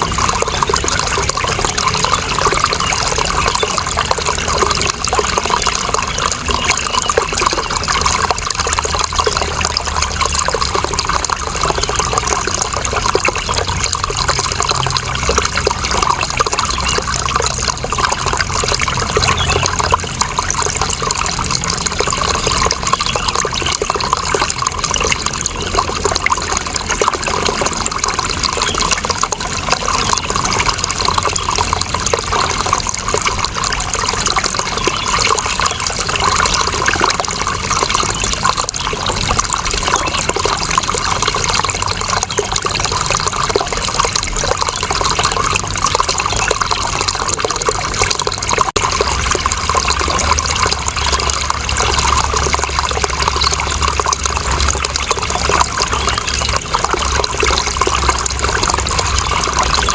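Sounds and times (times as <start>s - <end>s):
running water flowing: 0.0s - 59.9s.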